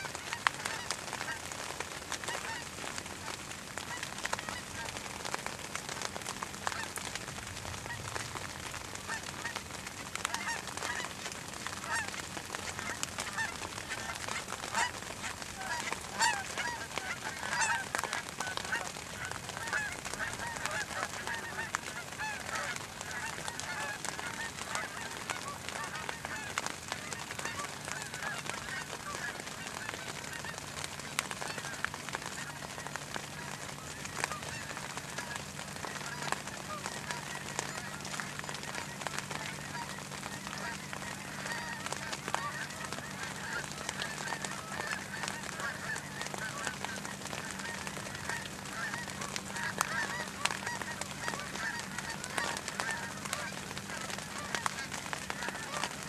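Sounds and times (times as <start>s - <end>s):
geese honking in flight: 0.0s - 5.0s, 5.9s - 56.0s.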